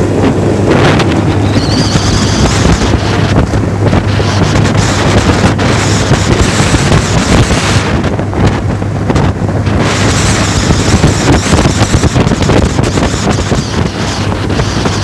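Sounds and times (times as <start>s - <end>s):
outboard motor running: 0.0s - 15.0s
wind on microphone: 0.0s - 15.0s.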